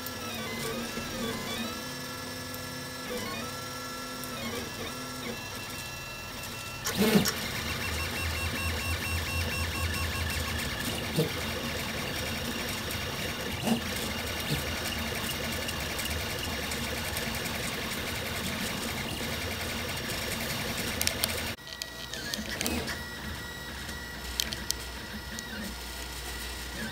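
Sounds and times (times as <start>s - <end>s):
stepper motors whirring: 0.2s - 26.9s.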